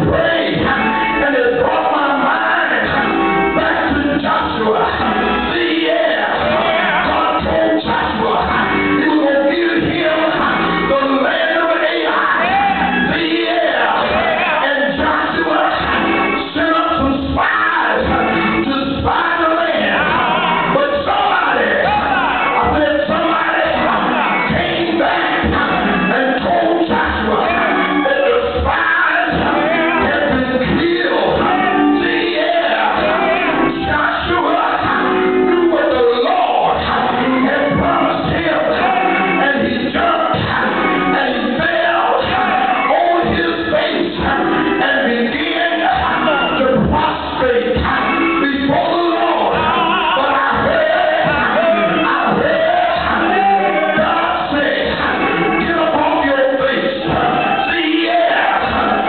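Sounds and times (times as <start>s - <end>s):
voices singing church music: 0.0s - 59.0s.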